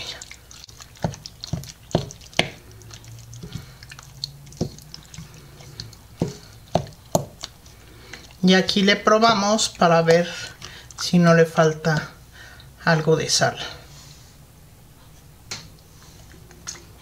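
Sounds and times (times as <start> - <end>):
wet squelching of stirring: 0.0 - 14.2.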